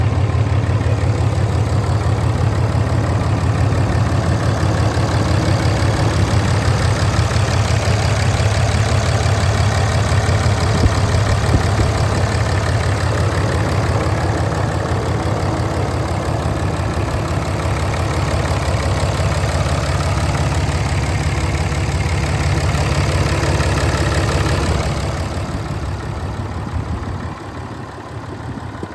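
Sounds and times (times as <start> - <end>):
pickup truck engine idling: 0.0 - 28.9.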